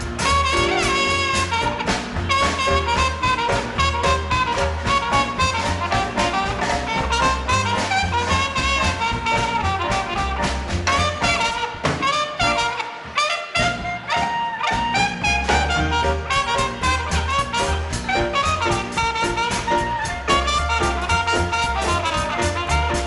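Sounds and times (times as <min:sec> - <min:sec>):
saxophone: 0:00.0 - 0:23.0
swing jazz band playing: 0:00.0 - 0:23.0
trumpet: 0:00.0 - 0:23.0.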